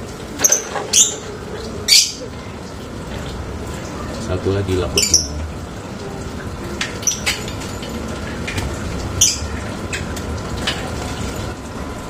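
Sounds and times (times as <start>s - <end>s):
birds chirping: 0.4s - 11.0s.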